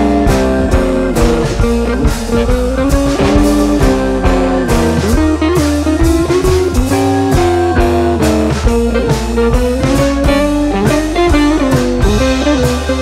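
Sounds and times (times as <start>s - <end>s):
blues guitar tune: 0.0s - 13.0s
drum kit beat: 0.0s - 13.0s.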